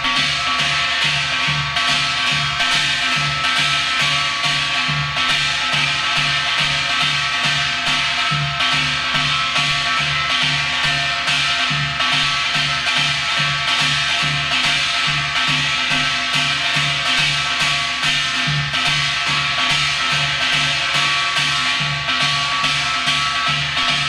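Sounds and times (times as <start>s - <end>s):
hourglass drum fast rhythm: 0.0s - 24.0s.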